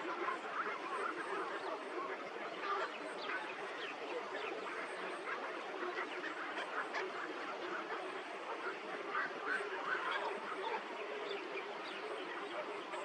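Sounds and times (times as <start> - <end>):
flock of waterbirds calling: 0.0 - 13.0.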